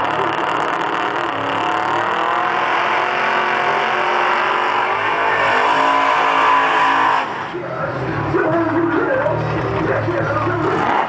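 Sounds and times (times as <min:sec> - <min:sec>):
racing car engine revving: 0:00.0 - 0:11.0
tires spinning: 0:00.0 - 0:11.0.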